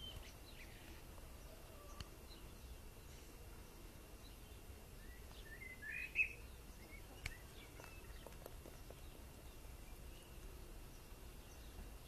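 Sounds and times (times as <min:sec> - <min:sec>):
bird chirping: 0:00.0 - 0:12.0
faint background noise: 0:00.0 - 0:12.0.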